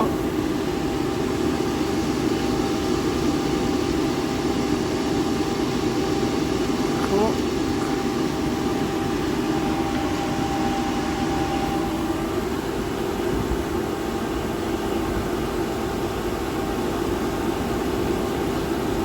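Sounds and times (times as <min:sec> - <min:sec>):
boiler burner roaring: 0:00.0 - 0:19.0
steady hum: 0:00.0 - 0:19.0.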